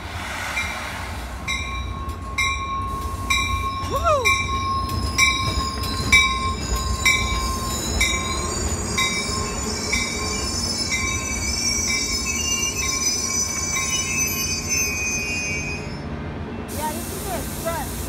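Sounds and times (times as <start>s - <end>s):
low train rumble: 0.0s - 18.0s
train wheels squealing: 1.5s - 17.0s.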